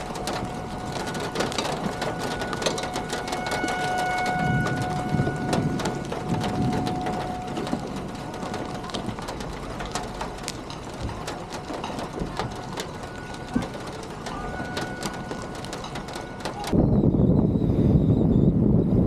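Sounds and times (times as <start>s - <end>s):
rain pattering: 0.0s - 17.5s
low rumbling: 0.0s - 19.0s.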